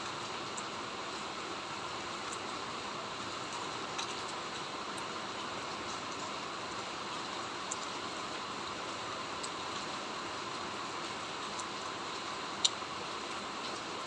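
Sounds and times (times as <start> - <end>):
raindrops ticking: 0.0 - 14.0
steady rain hissing: 0.0 - 14.0.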